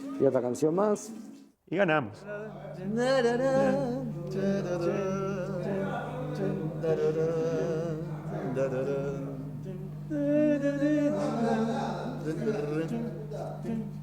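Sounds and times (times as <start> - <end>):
steady low hum: 1.8 - 14.0
man singing slow melody: 2.2 - 14.0.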